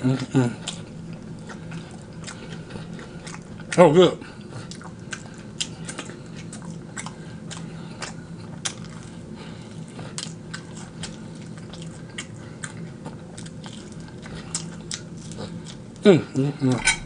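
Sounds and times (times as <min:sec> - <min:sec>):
chewing crispy fried chicken: 0:00.0 - 0:17.0.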